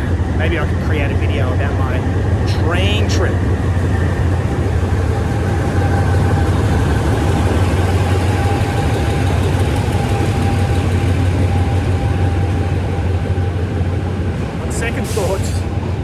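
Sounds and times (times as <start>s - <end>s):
diesel locomotive idling: 0.0s - 16.0s.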